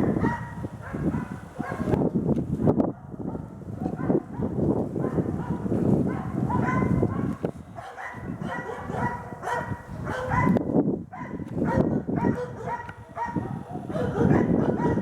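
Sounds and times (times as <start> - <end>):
dogs barking rapidly: 0.0 - 2.0, 2.7 - 15.0.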